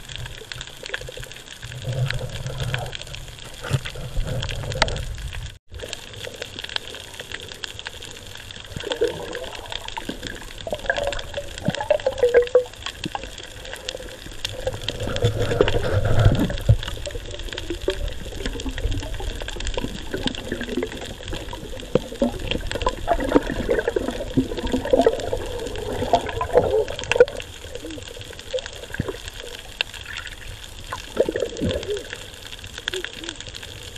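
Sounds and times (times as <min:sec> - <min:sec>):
bubbly gurgles: 0:00.0 - 0:33.9
underwater sloshing: 0:00.0 - 0:33.9.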